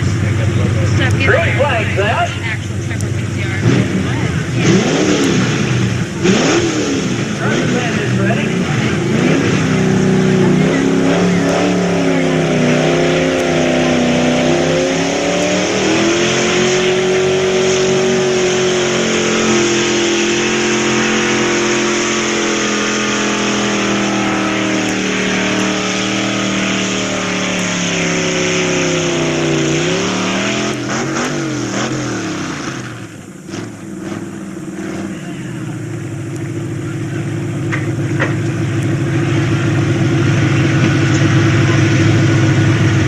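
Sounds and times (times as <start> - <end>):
truck engine at full throttle: 0.0 - 43.0.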